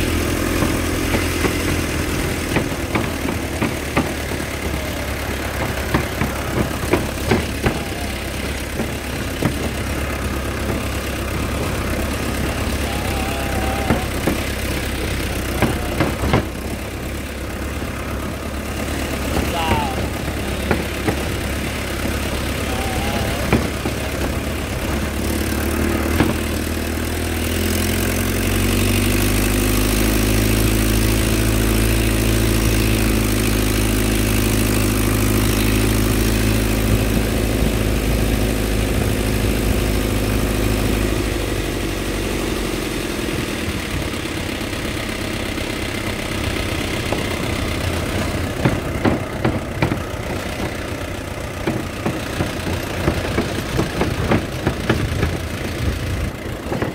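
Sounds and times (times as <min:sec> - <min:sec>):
truck engine running: 0:00.0 - 0:56.9
truck knocking and rattling on bumps: 0:00.0 - 0:56.9.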